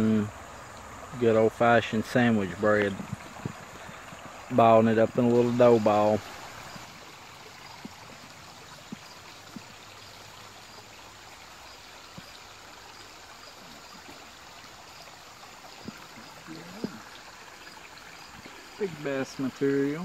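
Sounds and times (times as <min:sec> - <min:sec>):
creek water over rocks: 0:00.0 - 0:20.0.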